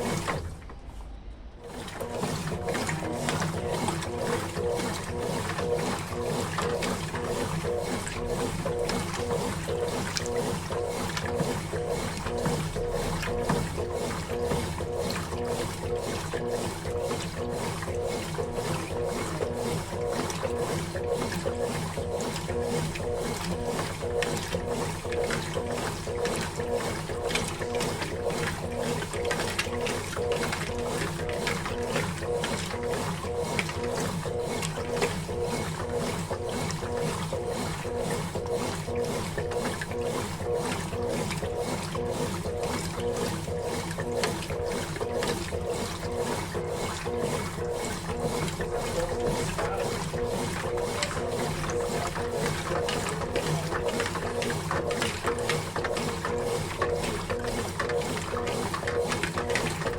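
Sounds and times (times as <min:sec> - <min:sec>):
washing machine churning: 0:00.0 - 0:59.9.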